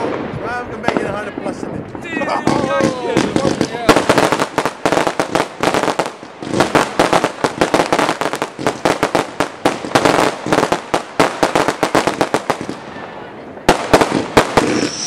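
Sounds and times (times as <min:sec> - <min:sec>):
fireworks barrage: 0:00.0 - 0:15.0.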